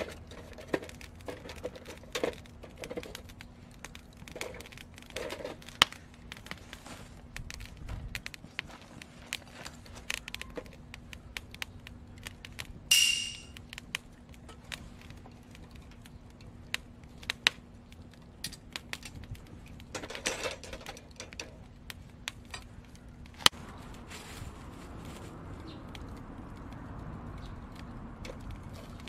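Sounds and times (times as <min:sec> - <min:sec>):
firewood crackling and popping: 0:00.0 - 0:29.0.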